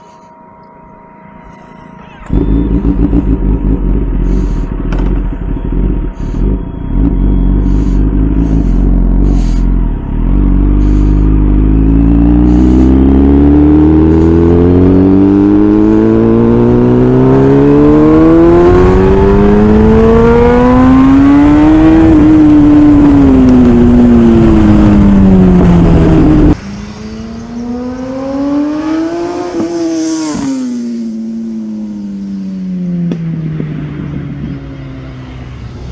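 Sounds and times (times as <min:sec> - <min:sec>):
motorcycle engine accelerating: 0:02.2 - 0:35.9.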